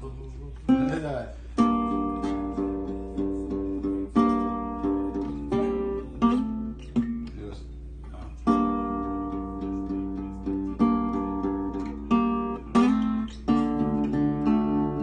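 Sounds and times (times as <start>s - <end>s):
acoustic guitar strumming chords: 0.7s - 15.0s.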